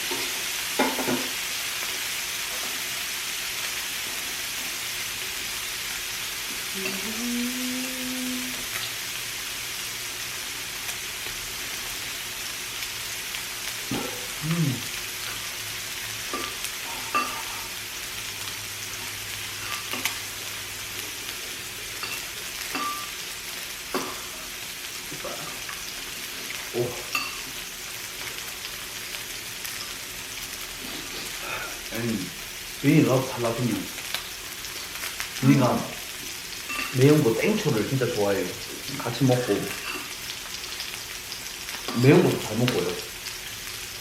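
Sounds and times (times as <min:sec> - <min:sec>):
meat sizzling on a grill: 0:00.0 - 0:44.0.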